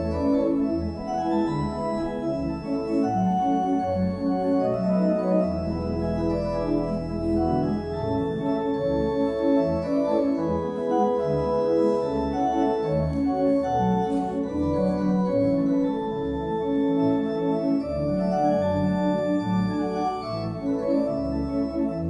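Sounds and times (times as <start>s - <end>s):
organ playing chords: 0.0s - 22.0s.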